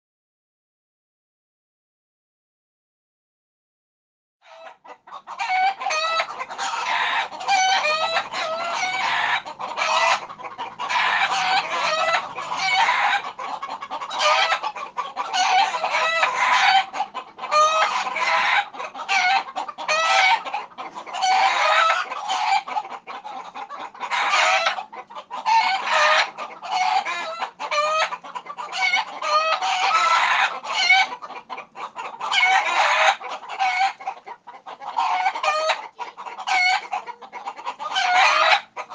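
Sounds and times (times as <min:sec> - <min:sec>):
roosters squawking: 0:04.4 - 0:38.9.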